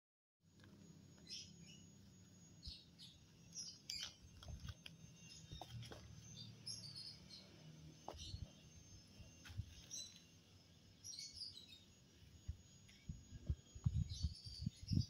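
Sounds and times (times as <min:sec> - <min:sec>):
steady low hum: 0:00.5 - 0:15.0
small birds chirping: 0:01.1 - 0:15.0.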